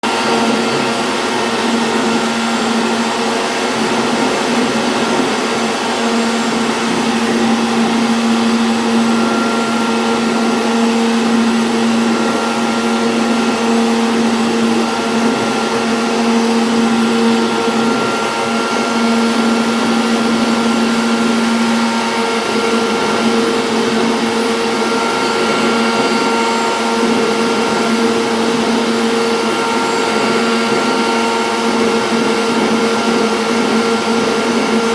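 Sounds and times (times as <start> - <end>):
router spindle hissing whine: 0.1 - 34.9.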